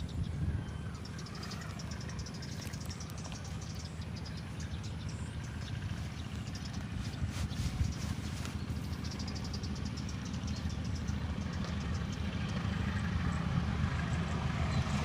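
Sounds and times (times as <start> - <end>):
locomotive engine idling: 0.0 - 15.0.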